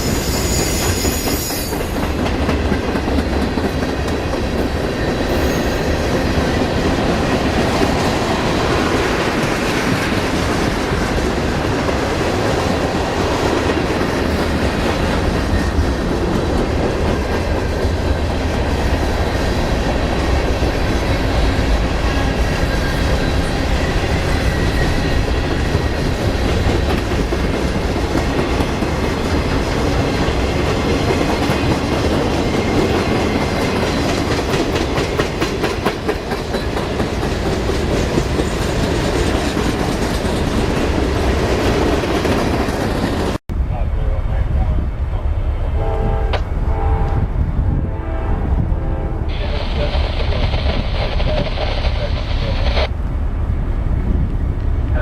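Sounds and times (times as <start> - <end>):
train cars rumbling past: 0.0 - 55.0.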